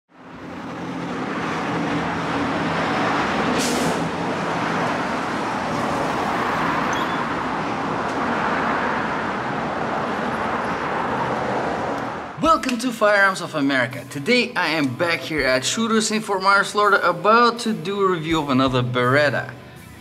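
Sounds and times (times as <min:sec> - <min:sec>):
road traffic noise: 0:00.1 - 0:20.0.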